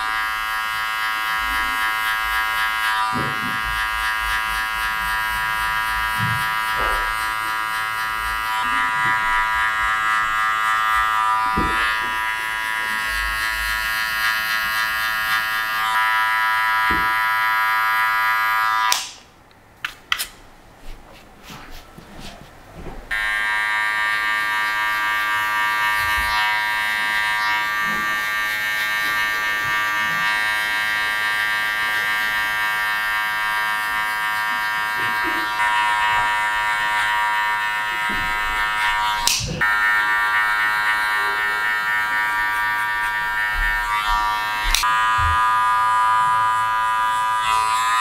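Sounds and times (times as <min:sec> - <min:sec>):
hair clipper motor hum: 0:00.0 - 0:19.2, 0:23.1 - 0:48.0.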